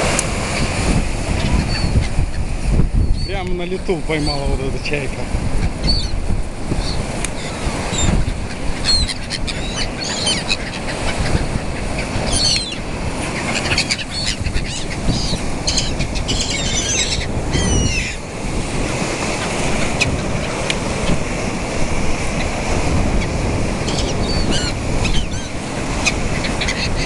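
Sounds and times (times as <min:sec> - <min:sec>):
gulls calling: 0:00.0 - 0:27.0
wind and water rumble: 0:00.0 - 0:27.0.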